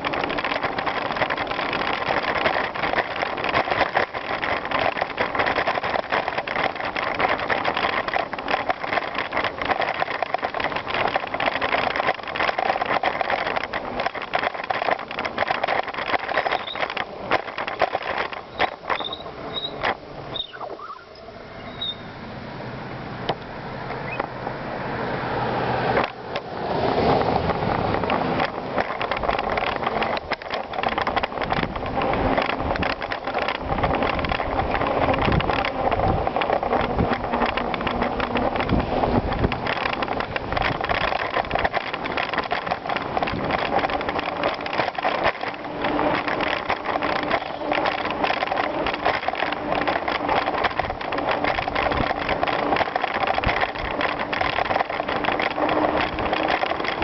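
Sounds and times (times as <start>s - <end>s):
bike rattling and knocking: 0.0s - 22.0s, 25.8s - 57.0s
bicycle tyres on gravel: 0.0s - 57.0s.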